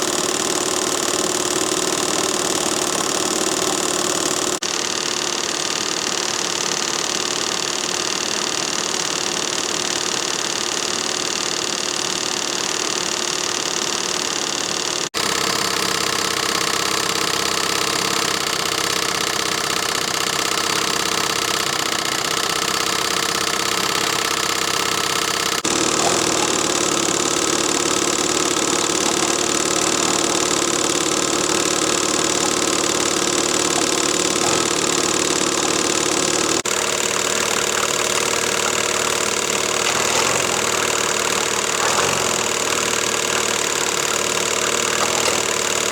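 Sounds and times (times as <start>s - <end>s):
small steam engine hissing: 0.0s - 45.9s.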